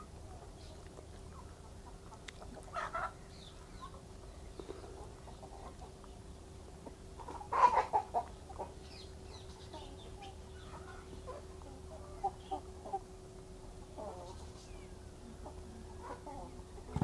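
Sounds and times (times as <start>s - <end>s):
chickens clucking: 0.0s - 17.0s
faint steady hum: 0.0s - 17.0s.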